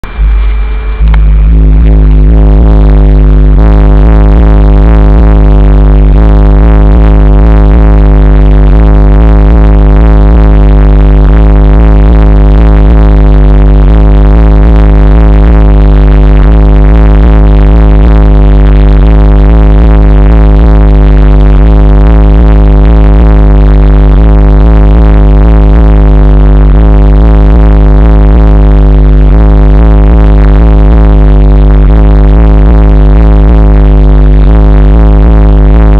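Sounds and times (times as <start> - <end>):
loud bass-heavy music: 0.0 - 35.9.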